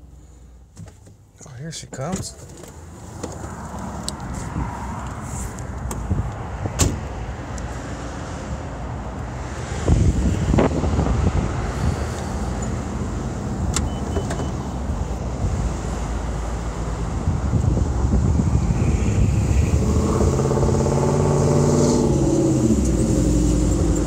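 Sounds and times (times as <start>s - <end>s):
wind and traffic rumble: 0.0s - 24.0s.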